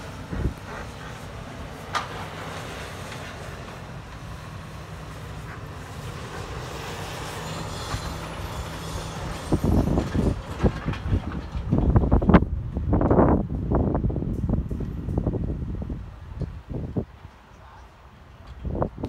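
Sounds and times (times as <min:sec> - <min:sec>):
excavator diesel engines running: 0:00.0 - 0:19.0
wind buffeting microphone: 0:00.0 - 0:19.0.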